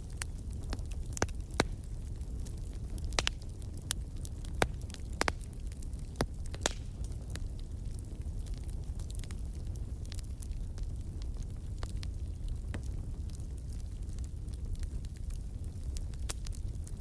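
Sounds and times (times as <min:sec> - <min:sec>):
sharp pops of burning wood: 0:00.0 - 0:17.0
wood fire crackling: 0:00.0 - 0:17.0.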